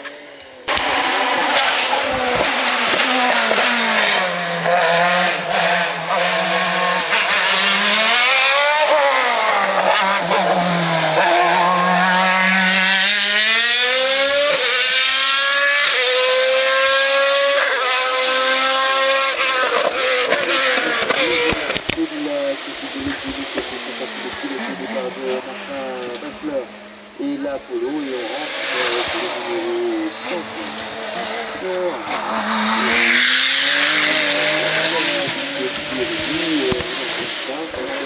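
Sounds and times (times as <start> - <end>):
race car engine accelerating: 0.0 - 38.0.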